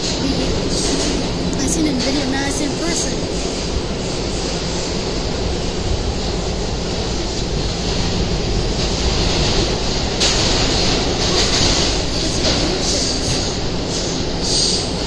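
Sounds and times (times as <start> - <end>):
subway car wheels rumbling on rail: 0.0 - 15.0.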